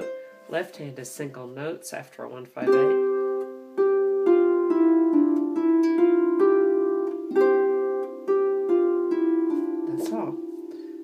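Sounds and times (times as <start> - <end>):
harp being plucked: 0.0 - 1.4, 2.6 - 11.0.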